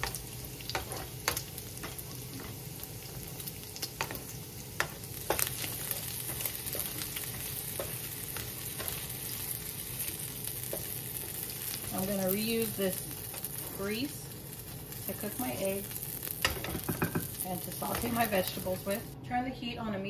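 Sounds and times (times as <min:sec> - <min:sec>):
bacon sizzling with pops: 0:00.0 - 0:19.2.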